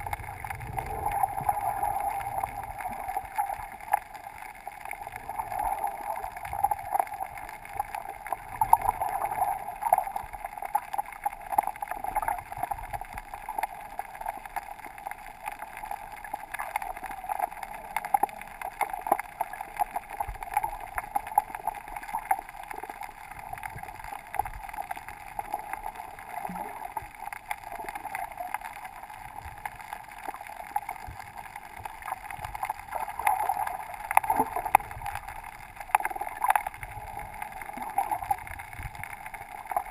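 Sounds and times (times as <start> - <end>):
faint crackling clicks: 0.0 - 39.9
muffled underwater rush: 0.0 - 39.9.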